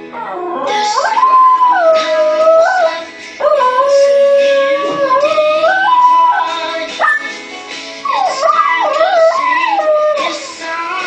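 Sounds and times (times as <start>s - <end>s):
song playing on radio: 0.0s - 11.0s
small dog howling: 0.2s - 7.3s, 8.1s - 10.6s.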